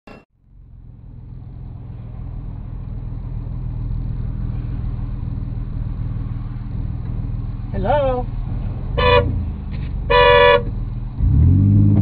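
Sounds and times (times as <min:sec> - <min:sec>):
car engine and road hum: 0:00.1 - 0:12.0.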